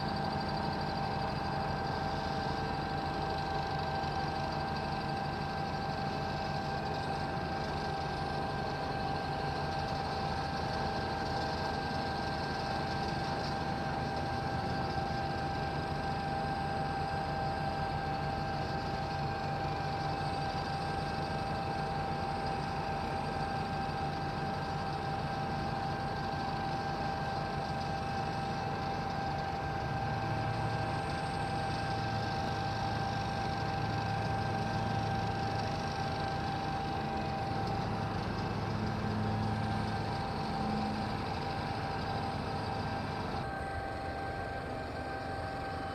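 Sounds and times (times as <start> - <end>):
construction machinery engine rumble: 0.0 - 45.9
high-pitched whine: 0.0 - 45.9.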